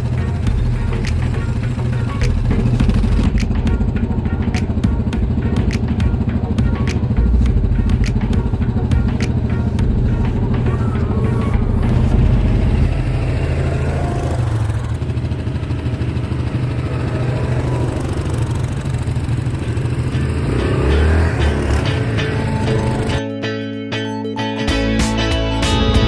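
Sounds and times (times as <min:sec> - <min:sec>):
quad bike engine running: 0:00.0 - 0:23.3.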